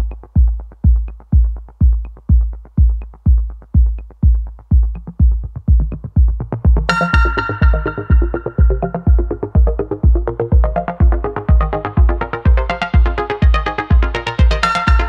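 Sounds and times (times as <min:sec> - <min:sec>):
steady kick drum: 0:00.0 - 0:15.0
synth chords: 0:00.0 - 0:15.0.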